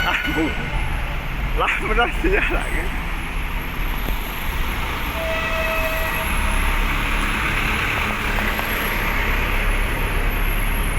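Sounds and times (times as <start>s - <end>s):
truck engines rumbling: 0.0s - 10.9s.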